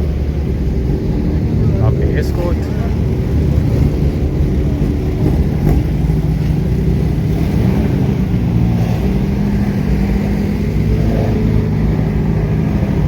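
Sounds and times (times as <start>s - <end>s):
race car engines idling: 0.0s - 13.0s.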